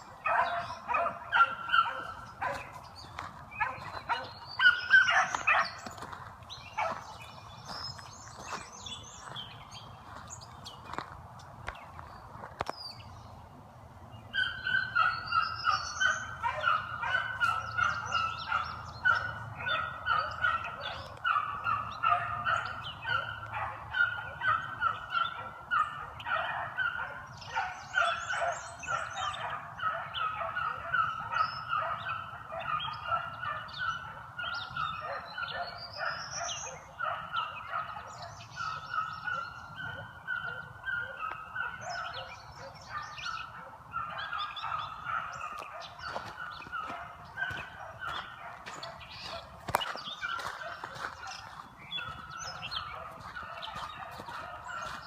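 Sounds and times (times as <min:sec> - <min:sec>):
pack of dogs baying: 0:00.0 - 0:10.3, 0:14.3 - 0:55.0.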